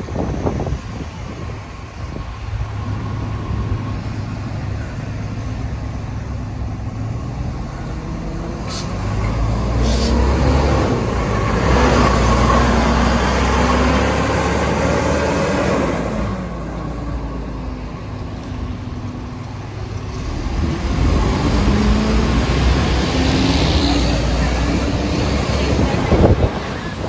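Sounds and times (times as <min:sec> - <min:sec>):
bus diesel engine: 0:00.0 - 0:27.0.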